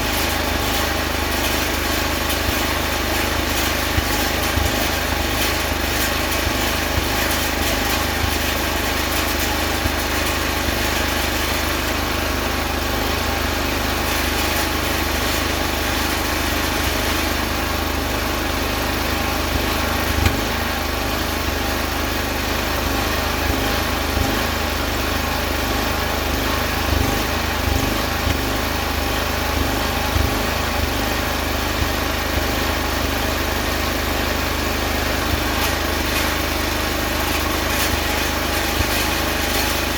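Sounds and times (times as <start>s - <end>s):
welding machine buzzing hum: 0.0s - 39.9s.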